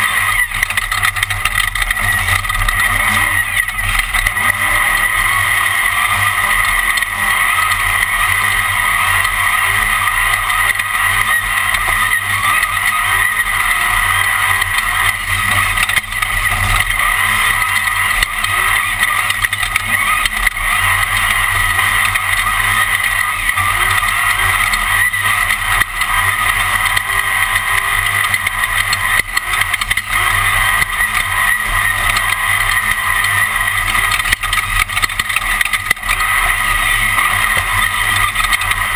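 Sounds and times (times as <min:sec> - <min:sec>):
race car engine drone: 0:00.0 - 0:38.9.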